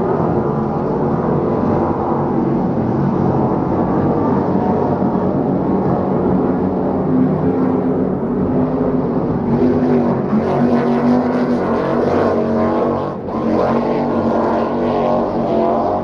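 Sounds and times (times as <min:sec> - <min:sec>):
powerboat engines running: 0:00.0 - 0:16.0.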